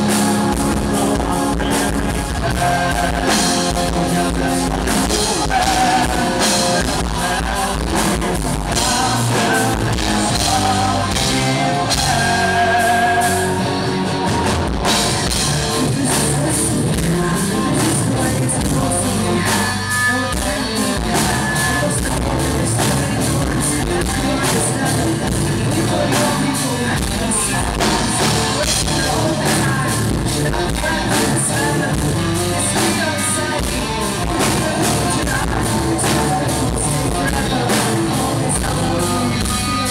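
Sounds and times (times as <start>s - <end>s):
bass guitar: 0.0s - 39.9s
drum kit: 0.0s - 39.9s
electric guitars: 0.0s - 39.9s
person singing lead vocal: 0.0s - 39.9s.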